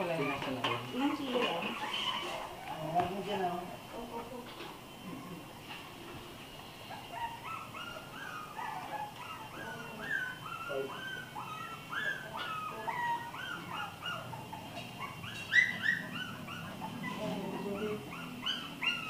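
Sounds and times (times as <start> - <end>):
puppies whining and whimpering: 0.0 - 3.6, 6.4 - 19.0.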